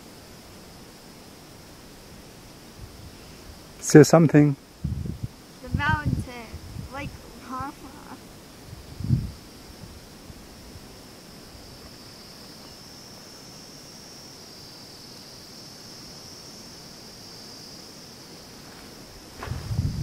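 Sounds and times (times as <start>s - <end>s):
faint hiss: 0.0s - 20.0s
insects chirring: 0.0s - 20.0s.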